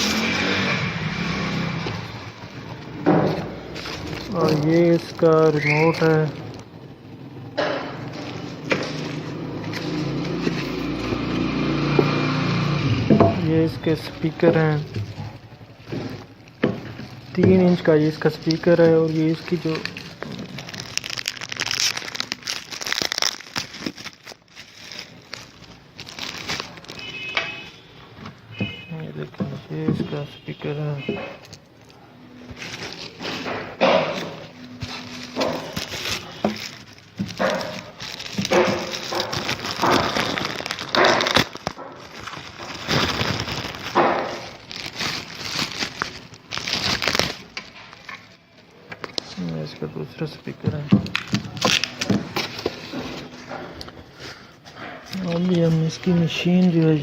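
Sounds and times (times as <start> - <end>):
packaging crinkling and rustling: 0.0 - 12.3, 13.4 - 57.0.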